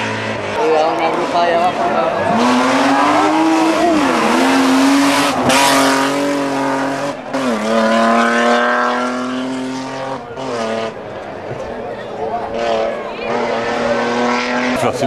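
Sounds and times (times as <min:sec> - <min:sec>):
rally car engine revving high: 0:00.0 - 0:15.0.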